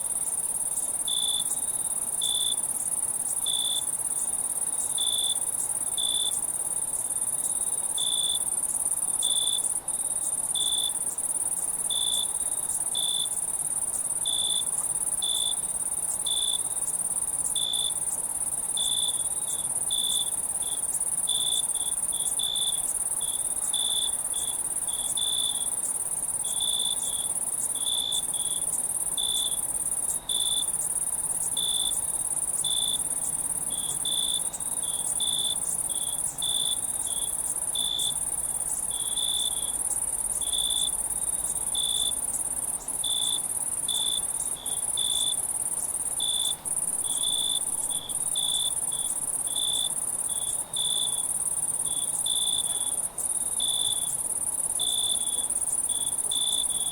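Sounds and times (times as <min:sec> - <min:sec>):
crickets trilling: 0:00.0 - 0:56.9
lower cricket chirp: 0:00.0 - 0:56.9.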